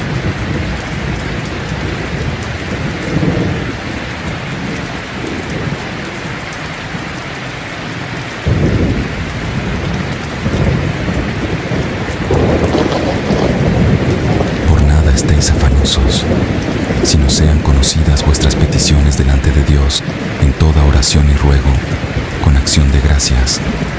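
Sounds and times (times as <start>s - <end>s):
thunder rumbling: 0.0s - 7.0s, 8.4s - 23.9s
steady rain: 0.0s - 23.9s.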